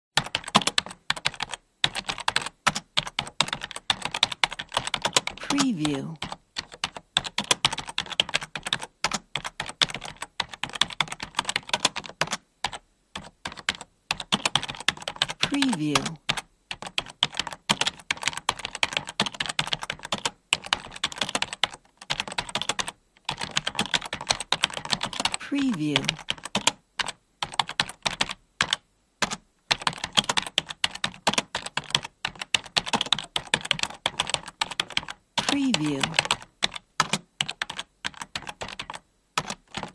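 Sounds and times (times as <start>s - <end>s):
fast typing on keyboard: 0.2s - 39.9s.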